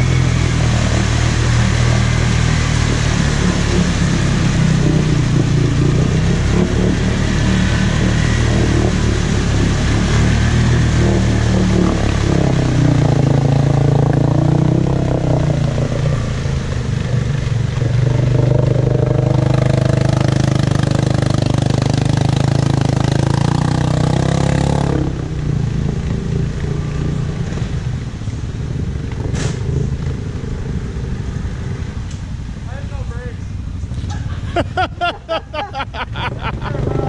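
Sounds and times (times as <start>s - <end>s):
quad engine revving: 0.0s - 28.0s, 33.9s - 37.0s.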